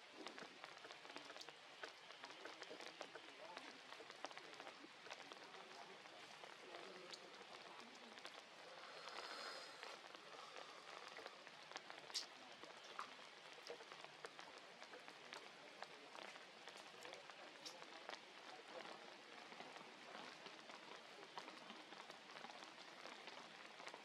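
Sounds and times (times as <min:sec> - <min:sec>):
light rain falling: 0:00.0 - 0:24.0.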